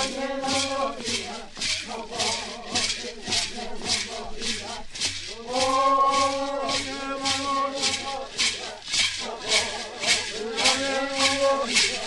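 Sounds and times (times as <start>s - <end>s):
gourd rattles shaken: 0.0s - 12.0s
voices singing: 0.0s - 12.0s.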